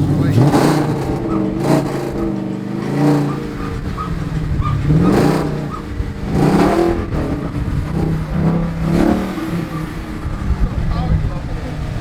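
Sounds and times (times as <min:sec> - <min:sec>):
pickup truck engine revving: 0:00.0 - 0:12.0.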